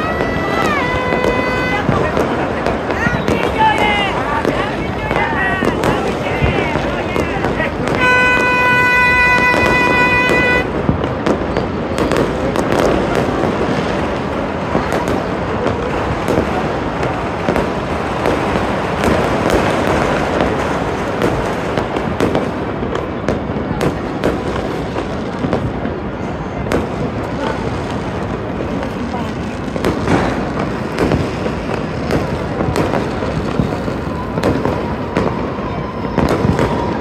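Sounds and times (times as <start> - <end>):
firecracker bangs: 0.0 - 37.0
fireworks crackling: 0.0 - 37.0.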